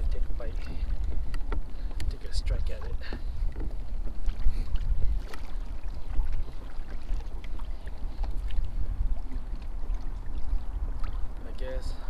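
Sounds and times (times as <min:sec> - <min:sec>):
water splashing against kayak hull: 0:00.0 - 0:12.0
wind buffeting microphone: 0:00.0 - 0:12.0.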